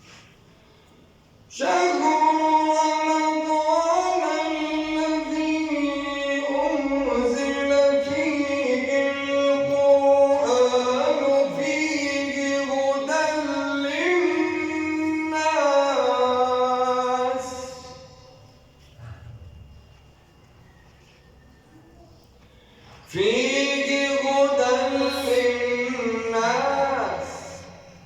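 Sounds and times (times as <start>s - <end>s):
man reciting melodically: 1.5s - 20.1s, 22.5s - 28.0s.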